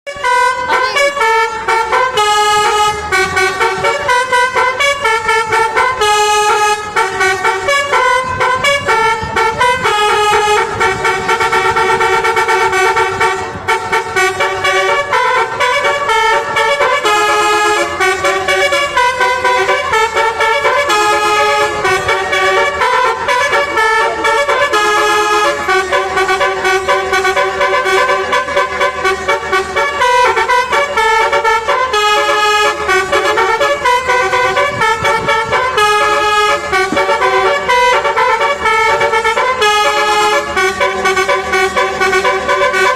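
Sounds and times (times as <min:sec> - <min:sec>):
bus musical horn tune: 0:00.1 - 0:42.9.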